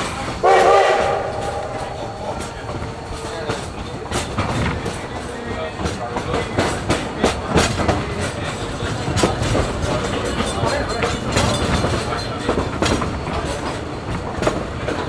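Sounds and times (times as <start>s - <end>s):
train coach rumbling: 0.0s - 15.0s
wheels clacking on track: 0.0s - 15.0s.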